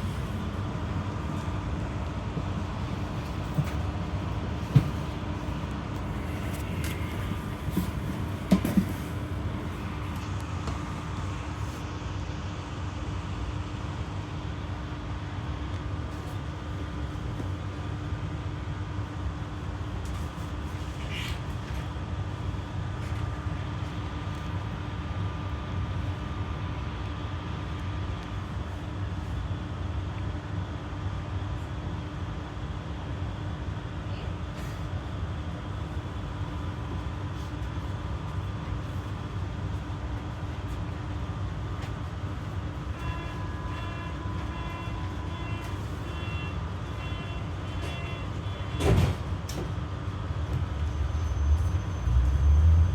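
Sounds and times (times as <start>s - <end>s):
tram rumble and hum: 0.0s - 52.9s.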